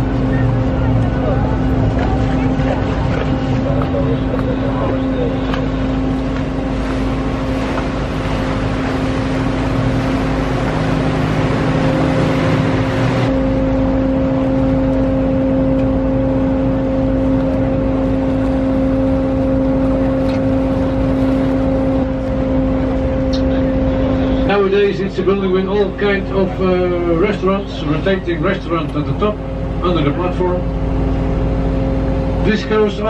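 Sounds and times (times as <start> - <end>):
boat engine droning: 0.0 - 33.0
rushing water: 0.0 - 33.0.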